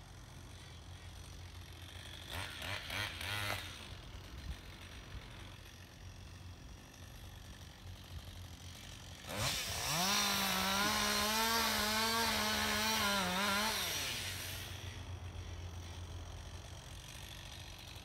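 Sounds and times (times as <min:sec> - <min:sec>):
chainsaw idling and revving: 0:00.0 - 0:18.0.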